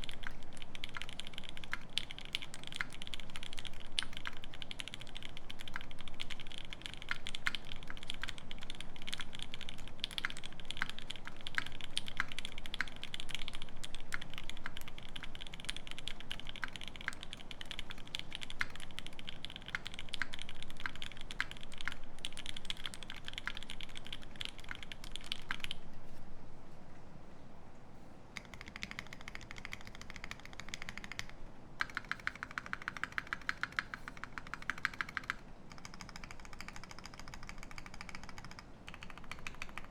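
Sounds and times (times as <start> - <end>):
fast even clicks: 0.0 - 25.9, 28.4 - 39.9.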